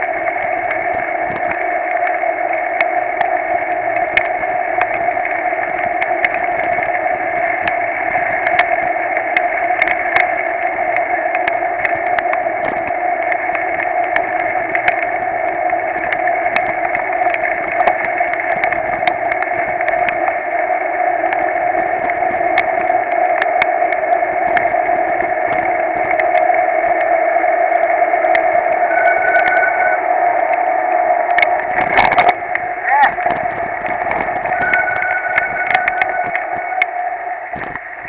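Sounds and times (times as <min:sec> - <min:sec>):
heavy rain: 0:00.0 - 0:38.0
raindrops ticking on camera case: 0:00.0 - 0:38.0
rush of riding: 0:00.0 - 0:38.0.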